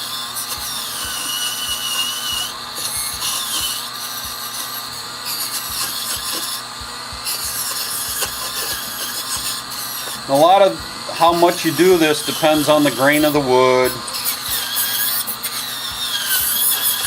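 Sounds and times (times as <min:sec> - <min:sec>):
power tool sanding wood: 0:00.0 - 0:17.0.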